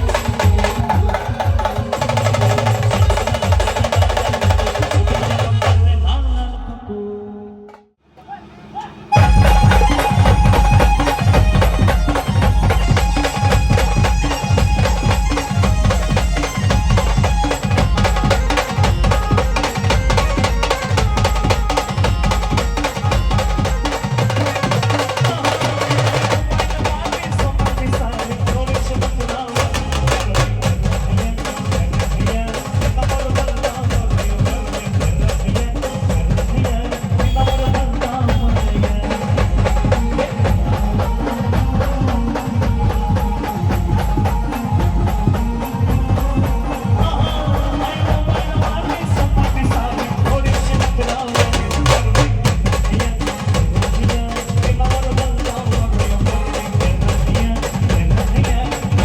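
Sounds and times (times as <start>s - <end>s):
band playing dance song: 0.0s - 6.1s, 9.1s - 59.0s
heavy drum beat: 0.0s - 6.1s, 9.1s - 59.0s.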